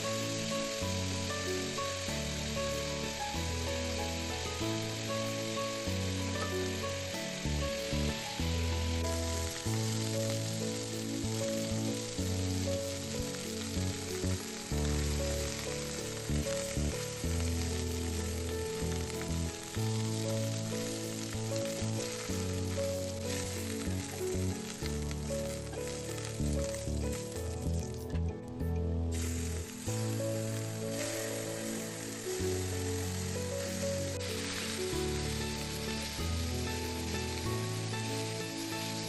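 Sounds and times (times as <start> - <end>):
food sizzling in hot oil: 0.0 - 28.2, 29.1 - 39.0.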